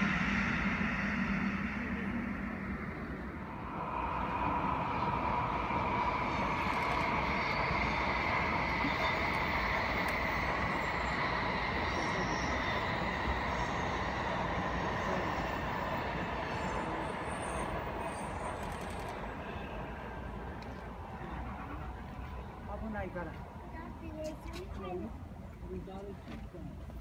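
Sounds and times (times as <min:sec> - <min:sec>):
faint falling whine: 0:00.0 - 0:24.8
high-speed train passing: 0:00.0 - 0:27.0.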